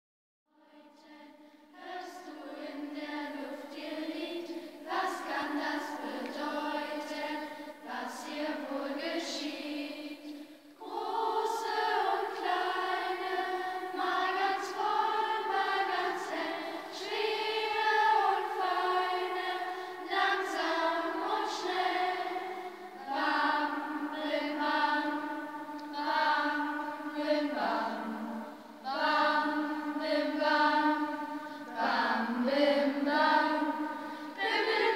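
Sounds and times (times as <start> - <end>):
children's choir singing: 0.6 - 34.9.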